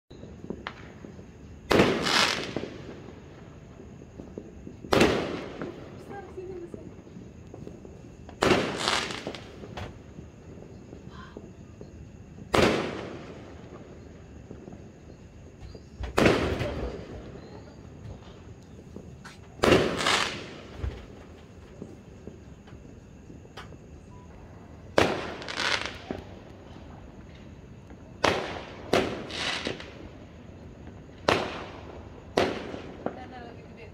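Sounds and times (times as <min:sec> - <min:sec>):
fireworks bursting: 0:00.1 - 0:33.9.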